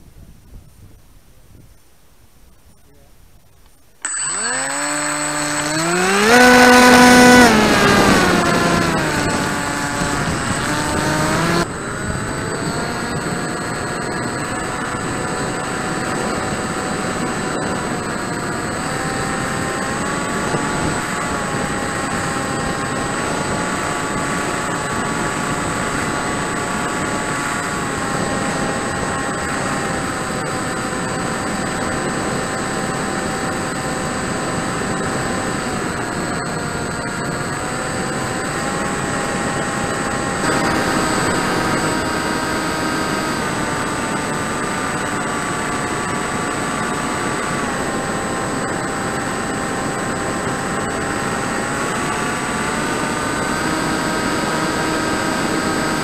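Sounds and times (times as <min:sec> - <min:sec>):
thin high whine: 0:01.6 - 0:56.0
model plane motor and propeller: 0:03.6 - 0:56.0.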